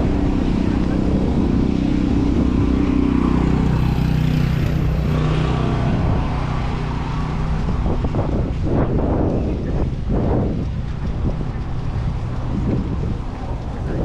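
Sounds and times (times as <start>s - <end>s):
street and wind noise: 0.0s - 14.0s
vehicle engine running: 0.0s - 14.0s.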